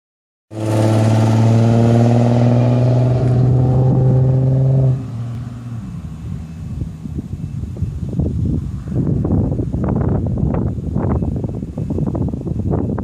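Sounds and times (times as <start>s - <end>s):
car engine under throttle: 0.5s - 12.3s.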